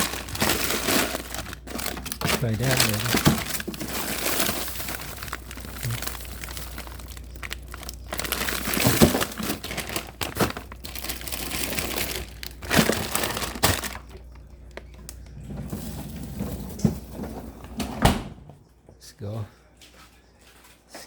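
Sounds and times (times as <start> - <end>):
plastic bags crinkling: 0.0 - 17.2.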